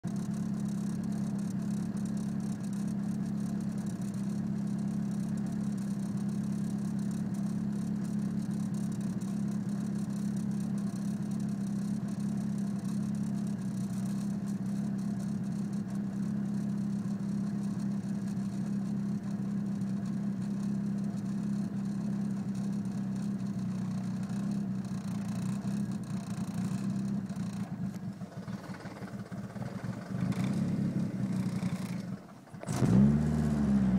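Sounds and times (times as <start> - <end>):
car engine idling with misfire: 0.0 - 33.9.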